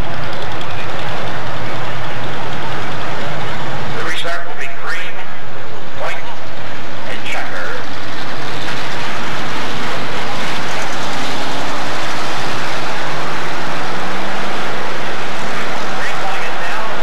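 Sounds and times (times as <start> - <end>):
race car engines roaring: 0.0 - 17.0.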